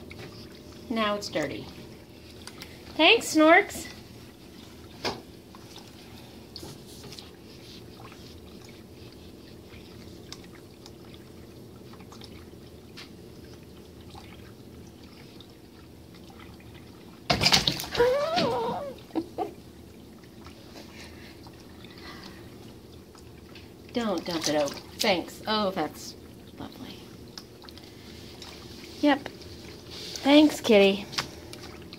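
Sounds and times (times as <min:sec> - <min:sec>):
small pump humming: 0:00.0 - 0:31.9
water stream trickling into bowl: 0:00.0 - 0:31.9.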